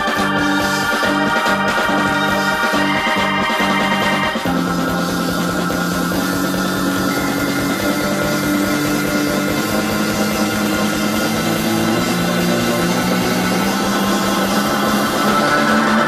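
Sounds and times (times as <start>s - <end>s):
bass: 0.0s - 16.0s
steady drum beat: 0.0s - 16.0s
sustained organ chords: 0.0s - 16.0s.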